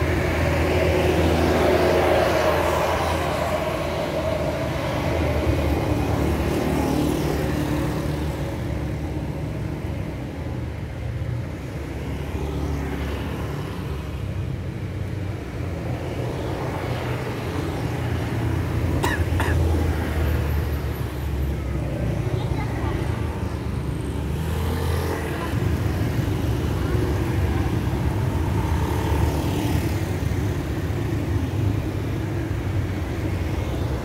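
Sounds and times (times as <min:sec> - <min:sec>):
tyre and road noise: 0:00.0 - 0:34.0.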